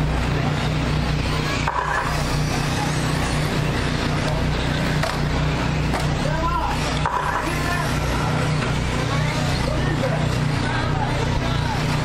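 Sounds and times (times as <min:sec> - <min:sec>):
rc truck motors whining: 0:00.0 - 0:12.0
steady low hum: 0:00.0 - 0:12.0.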